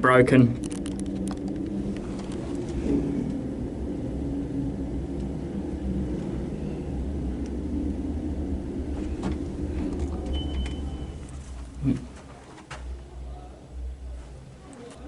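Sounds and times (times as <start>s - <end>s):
lift hum and rumble: 0.0s - 15.0s.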